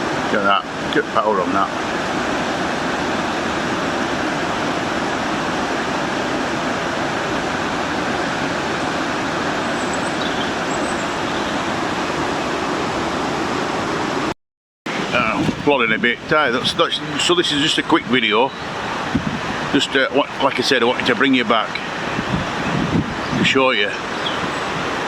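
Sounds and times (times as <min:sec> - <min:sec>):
waterfall rushing: 0:00.0 - 0:14.3, 0:14.9 - 0:25.0.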